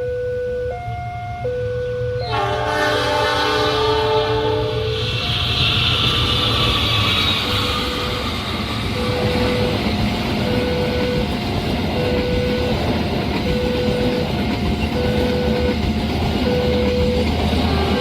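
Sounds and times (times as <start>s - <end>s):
level crossing alarm: 0.0s - 3.4s, 4.7s - 18.0s
passing train rumble: 0.0s - 18.0s.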